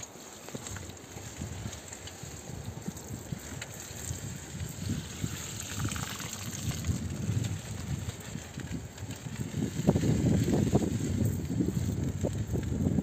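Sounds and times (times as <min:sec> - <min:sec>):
bicycle tyres hissing on wet concrete: 0:00.0 - 0:13.0
wind rumbling on microphone: 0:00.0 - 0:13.0.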